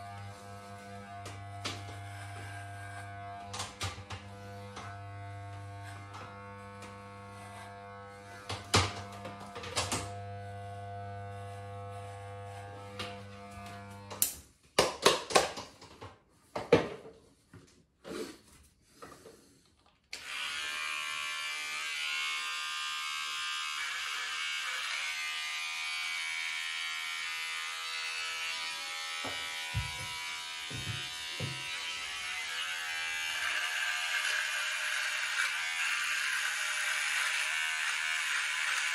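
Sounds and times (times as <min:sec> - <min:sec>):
electric hair clipper buzzing: 0:00.0 - 0:14.5, 0:20.1 - 0:38.9
electric shaver whirring: 0:00.0 - 0:14.5, 0:20.1 - 0:38.9.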